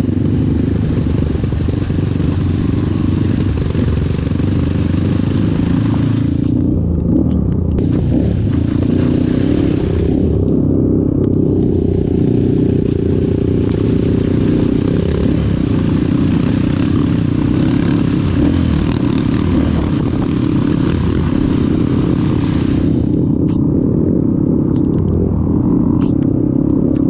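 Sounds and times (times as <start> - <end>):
rushing noise: 0.0 - 26.0
motorcycle engine running: 0.0 - 27.0.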